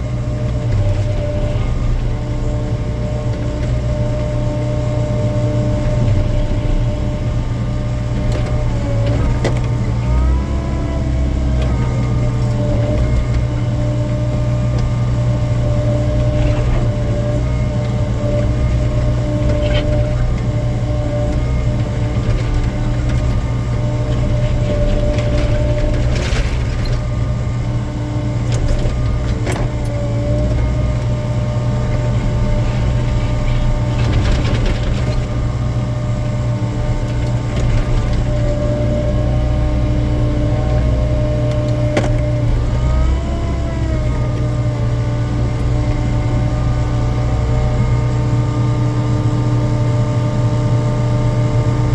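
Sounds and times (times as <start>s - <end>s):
hydraulics working: 0.0s - 48.9s
excavator diesel engine running: 0.0s - 51.9s.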